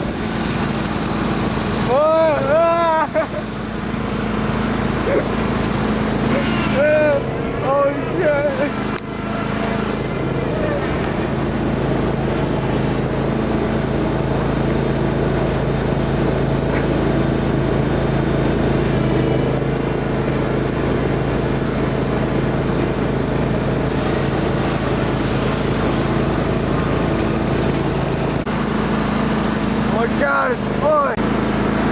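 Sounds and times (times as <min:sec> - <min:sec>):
lawn tractor engine running: 0:00.0 - 0:31.9.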